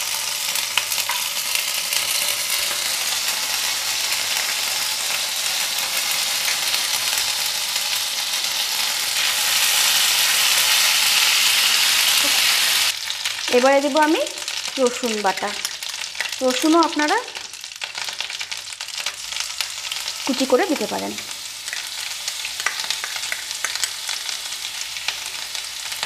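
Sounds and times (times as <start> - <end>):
hot oil sizzling in a frying pan: 0.0 - 26.0.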